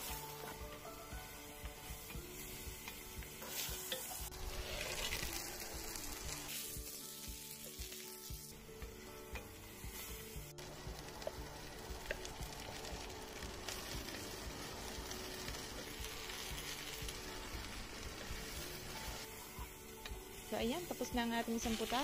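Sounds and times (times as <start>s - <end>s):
meat and onions sizzling: 0.0s - 22.0s.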